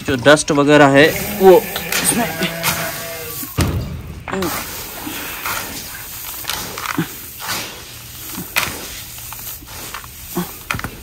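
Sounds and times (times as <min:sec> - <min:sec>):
hands rustling dry grain: 0:01.1 - 0:03.6, 0:04.4 - 0:11.0.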